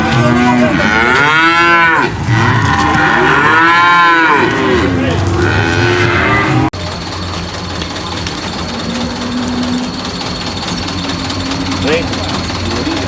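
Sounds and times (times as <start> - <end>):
cattle mooing: 0.0 - 6.8, 8.3 - 13.0.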